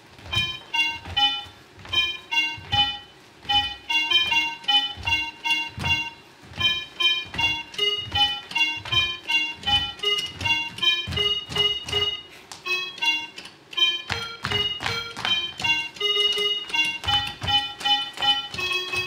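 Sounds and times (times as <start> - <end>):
upbeat electronic keyboard music: 0.3 - 19.0.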